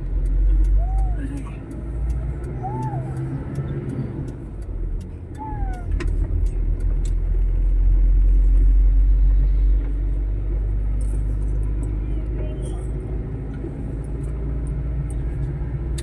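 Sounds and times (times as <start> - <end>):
motor vehicle rumble: 0.0 - 16.0.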